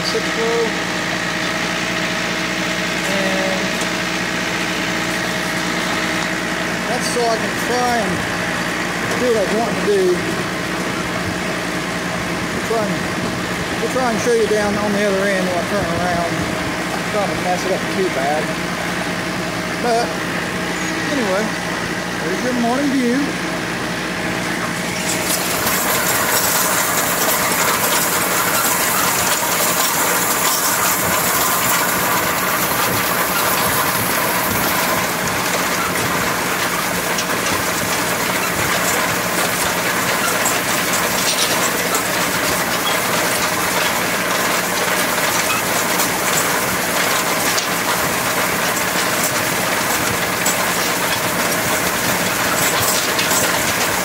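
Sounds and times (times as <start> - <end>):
hay rake rattling: 0.0 - 54.0
tractor running: 0.0 - 54.0.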